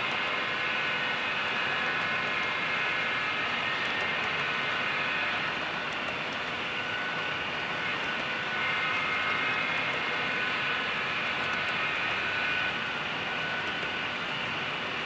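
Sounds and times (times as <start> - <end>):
model train wheels whirring: 0.0 - 15.0.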